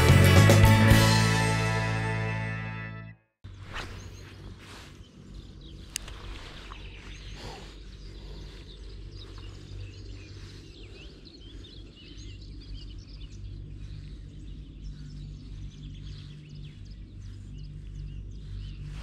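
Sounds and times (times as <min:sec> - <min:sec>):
steady low hum: 0:03.5 - 0:19.0
birds chirping and singing: 0:03.7 - 0:19.0.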